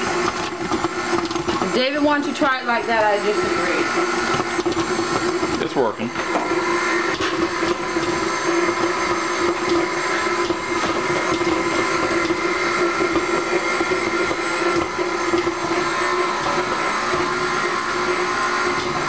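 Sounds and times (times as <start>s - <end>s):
electric mixer running: 0.0s - 19.0s.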